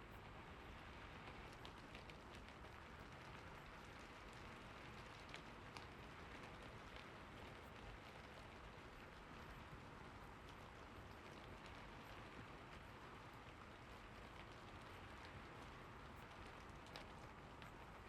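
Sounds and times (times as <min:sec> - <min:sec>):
faint steady rain hiss: 0:00.0 - 0:18.0
light raindrop ticks: 0:00.0 - 0:18.0.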